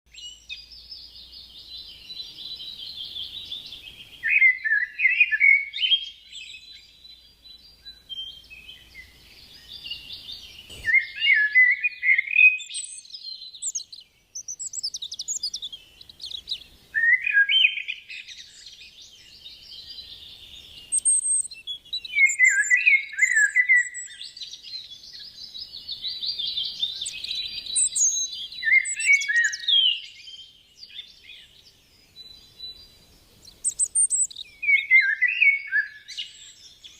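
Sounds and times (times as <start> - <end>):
small birds chirping: 0.1 - 36.9.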